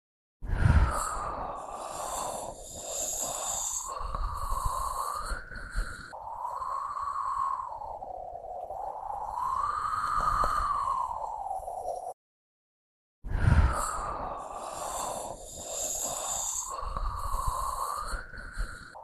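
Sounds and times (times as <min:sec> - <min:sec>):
eerie wind-like howling: 0:00.5 - 0:12.2, 0:13.3 - 0:19.0.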